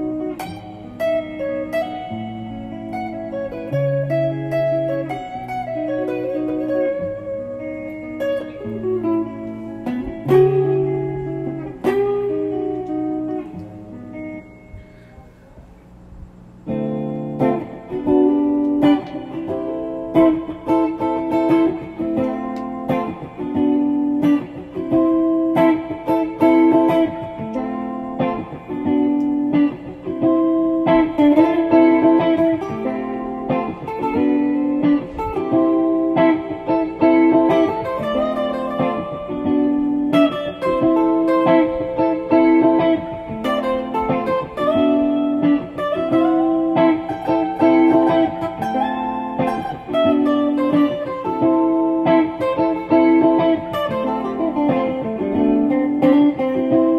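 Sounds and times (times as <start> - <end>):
plucked guitar music: 0.0 - 56.9.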